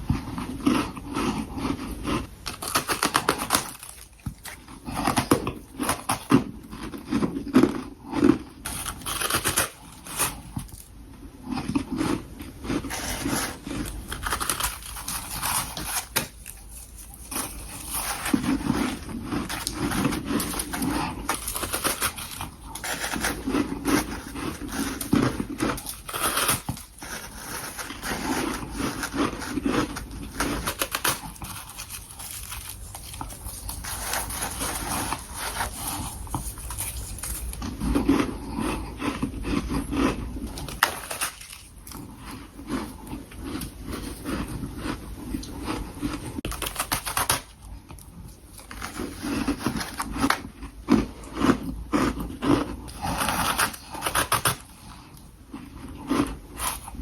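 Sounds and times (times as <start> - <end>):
chewing crunchy frost: 0.0 - 57.0.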